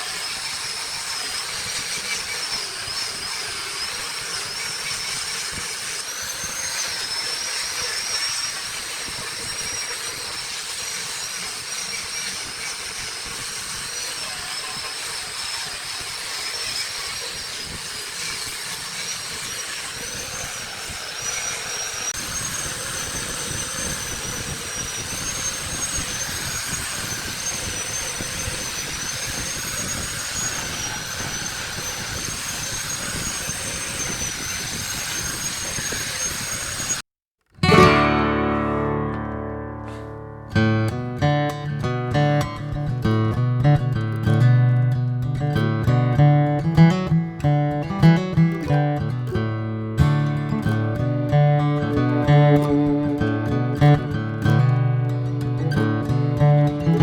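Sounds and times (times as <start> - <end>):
wood lathe whining: 0.0 - 37.0, 44.9 - 57.0.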